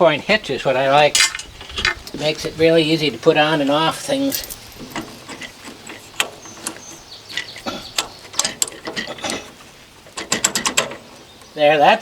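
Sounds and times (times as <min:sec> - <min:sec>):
metal clicks and clanks: 0:00.3 - 0:11.3.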